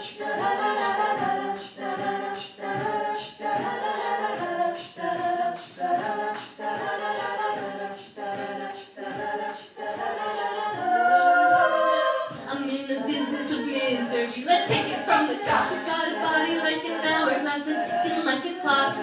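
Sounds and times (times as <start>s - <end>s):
vocal group singing a cappella: 0.0s - 19.0s.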